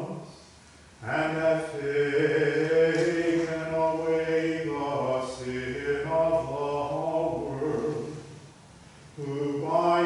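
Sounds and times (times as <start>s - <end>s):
man chanting: 1.0s - 8.4s, 9.2s - 10.0s.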